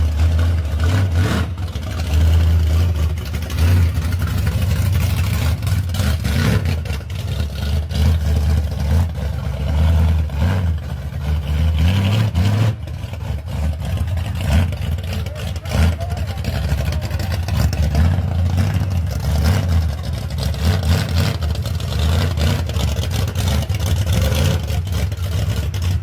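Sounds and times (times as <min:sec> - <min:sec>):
drag car engine idling and revving: 0:00.0 - 0:26.0.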